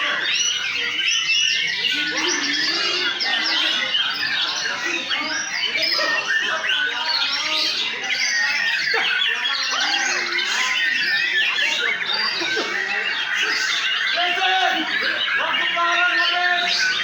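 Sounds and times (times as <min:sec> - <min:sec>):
chorus of songbirds: 0:00.0 - 0:17.0.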